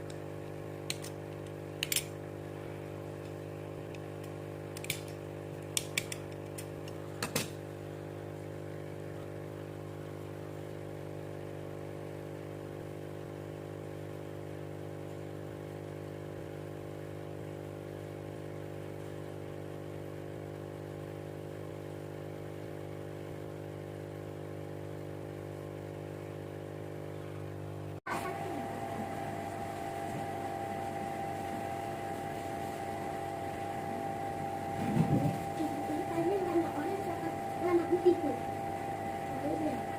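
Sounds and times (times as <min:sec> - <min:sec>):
small pump motor humming: 0:00.0 - 0:39.9.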